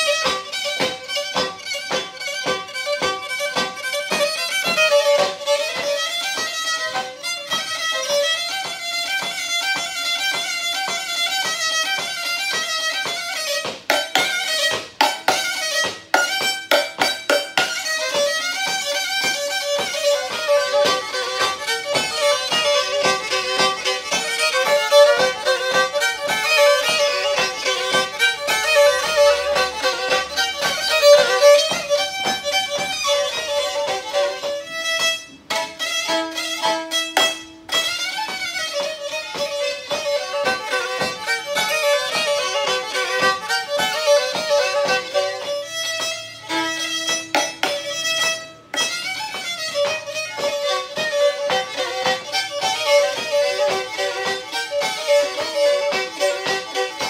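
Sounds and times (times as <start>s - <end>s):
bowed fiddle playing fast tune: 0.0s - 57.0s.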